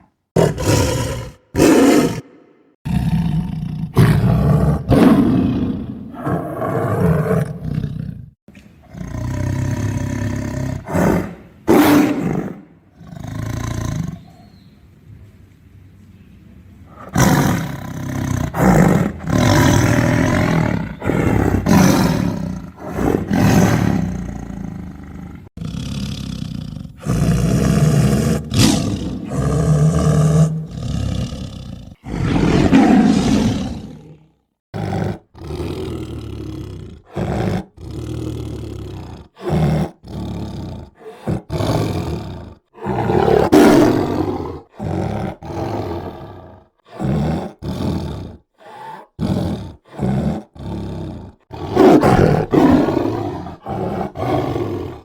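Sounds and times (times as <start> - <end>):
tiger roaring and snarling: 0.0 - 14.5, 16.9 - 55.0.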